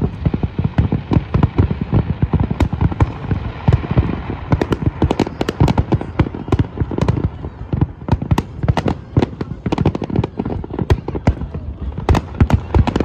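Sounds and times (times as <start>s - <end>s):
fireworks bursting with loud bangs: 0.0s - 13.0s.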